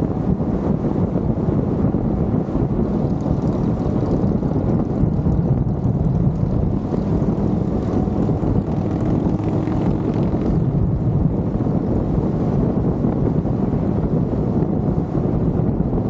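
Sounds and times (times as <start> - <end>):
vehicle road noise rumble: 0.0 - 16.0
wind buffeting microphone: 0.0 - 16.0.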